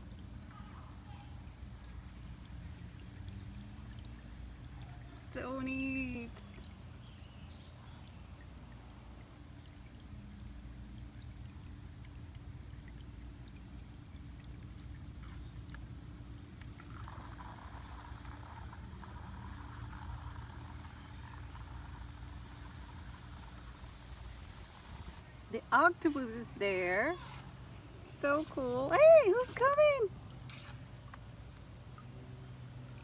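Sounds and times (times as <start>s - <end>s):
low hum: 0.0s - 33.0s
water trickling and splashing: 0.0s - 33.0s.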